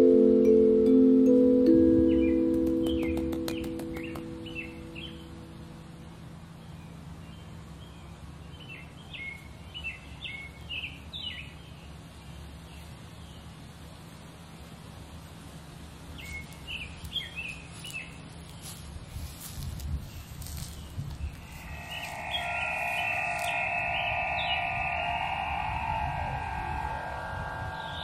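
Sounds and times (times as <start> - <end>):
small songbirds chirping: 1.8 - 13.8, 15.9 - 28.0.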